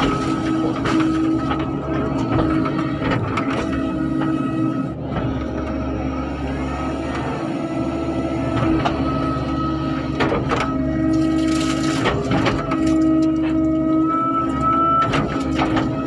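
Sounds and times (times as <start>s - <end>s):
excavator engine rumble: 0.0s - 16.0s.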